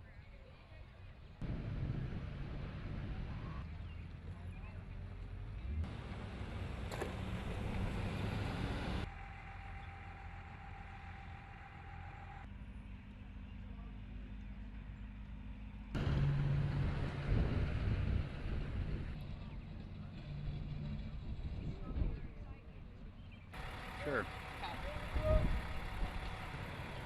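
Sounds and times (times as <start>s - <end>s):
vehicle engines running: 0.1s - 27.0s.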